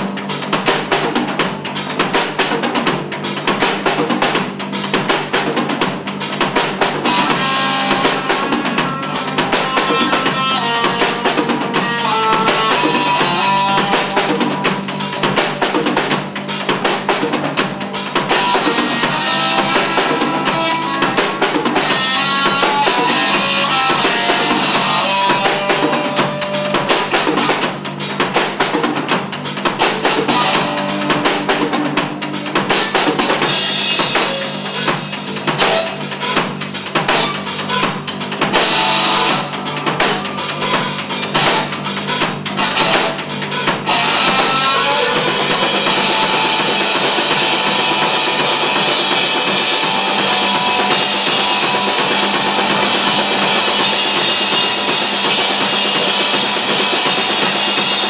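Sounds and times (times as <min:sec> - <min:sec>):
distorted electric guitar: 0:00.0 - 0:58.0
drum kit: 0:00.0 - 0:58.0.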